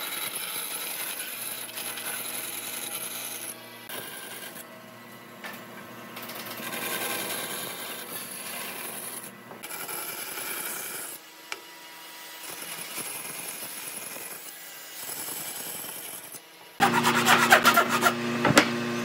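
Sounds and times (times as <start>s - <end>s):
bandsaw cutting wood: 0.0s - 4.7s, 6.2s - 11.6s, 12.2s - 18.3s.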